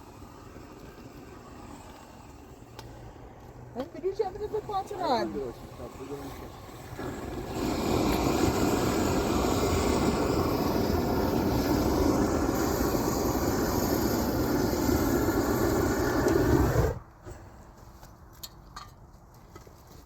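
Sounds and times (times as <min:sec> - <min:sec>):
gas torch roaring: 0:00.0 - 0:17.4.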